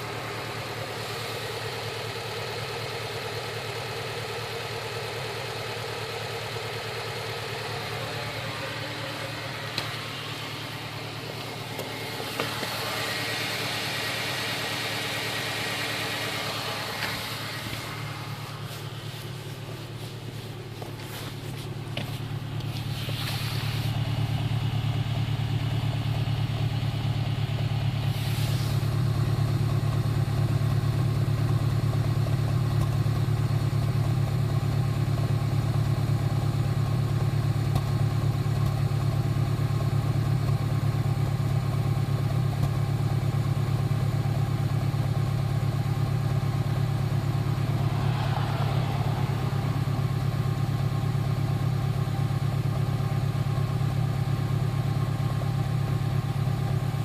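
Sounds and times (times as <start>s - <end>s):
car engine idling: 0.0s - 57.0s
popping in engine idle: 0.0s - 57.0s.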